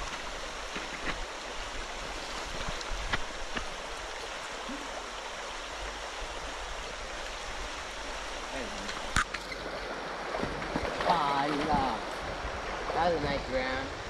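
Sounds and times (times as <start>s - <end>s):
creek rushing over stones: 0.0s - 14.0s.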